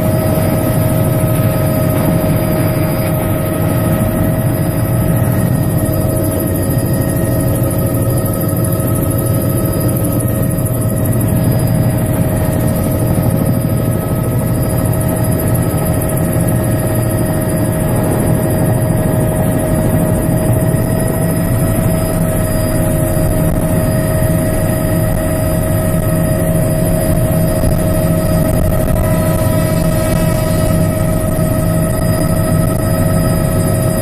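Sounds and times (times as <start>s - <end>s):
low rotor drone: 0.0s - 34.0s
turbine whine: 0.0s - 34.0s.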